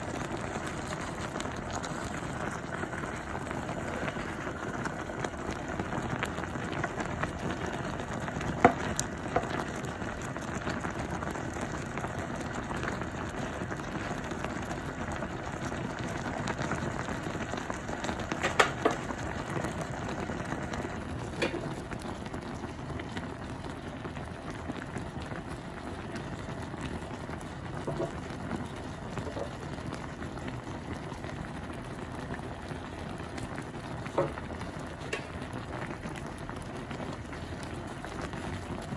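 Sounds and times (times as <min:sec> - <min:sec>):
broth boiling in a pot: 0:00.0 - 0:38.9.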